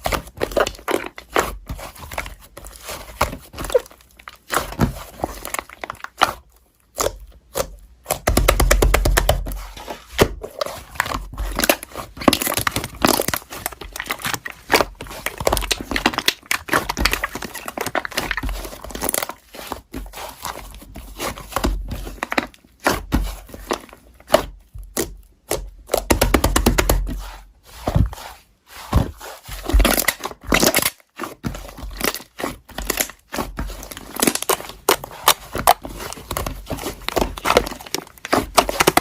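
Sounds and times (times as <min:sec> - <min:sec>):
crinkling and crumpling: 0:00.0 - 0:39.0.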